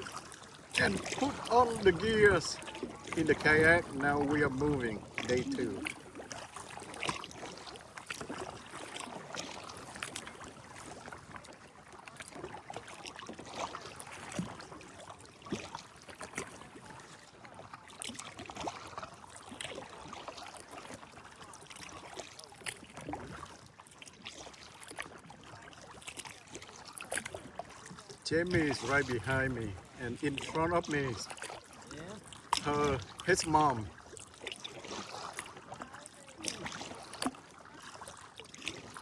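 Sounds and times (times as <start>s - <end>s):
kayak paddle splashes: 0.0s - 39.0s.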